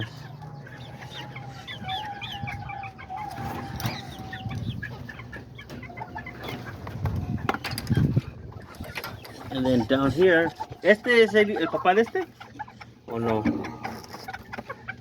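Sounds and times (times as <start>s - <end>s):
chickens clucking: 0.0s - 15.0s
small birds chirping: 0.0s - 15.0s.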